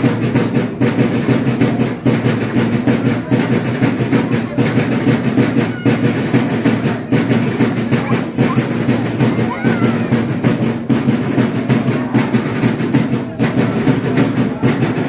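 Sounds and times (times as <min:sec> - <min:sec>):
fast rhythmic beat: 0:00.0 - 0:15.0
packed crowd din: 0:00.0 - 0:15.0.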